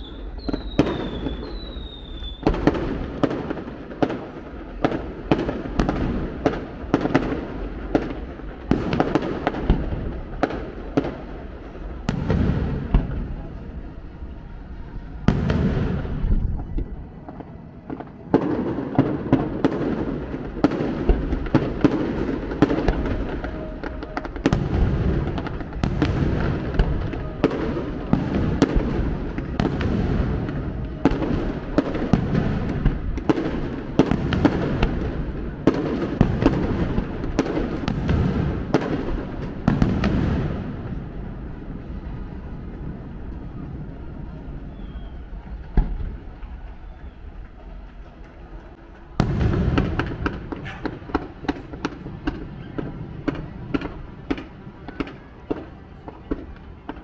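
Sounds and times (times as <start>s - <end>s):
firework bangs and crackles: 0.0s - 57.0s.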